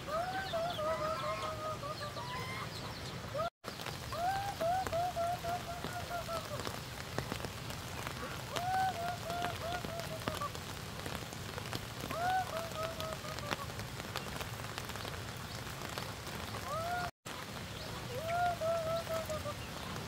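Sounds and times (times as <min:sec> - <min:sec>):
bird calling: 0:00.0 - 0:10.6, 0:12.0 - 0:20.0
rain pattering: 0:00.0 - 0:20.0.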